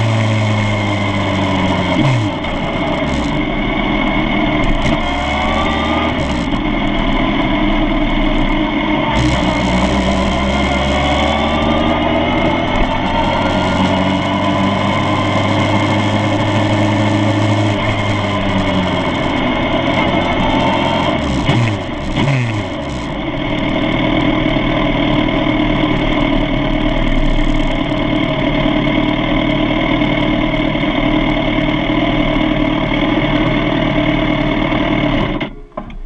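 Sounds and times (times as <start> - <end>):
motorcycle engine at low revs: 0.0 - 36.0.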